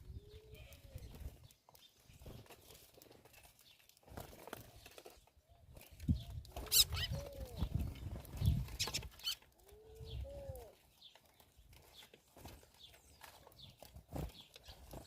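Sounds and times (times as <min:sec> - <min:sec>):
birds pecking and scuffling: 0:00.0 - 0:15.0.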